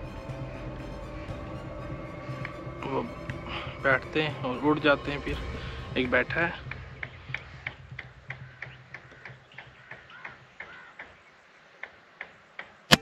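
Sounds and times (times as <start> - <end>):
low hum: 0.0 - 10.6
faint regular ticking: 1.9 - 12.8.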